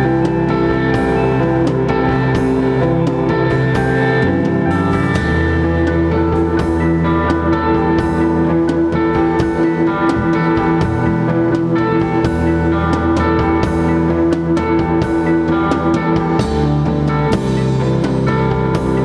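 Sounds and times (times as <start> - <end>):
drum and cymbal hits: 0.0 - 19.0
electric guitars ringing notes: 0.0 - 19.0
instrumental rock band playing: 0.0 - 19.0.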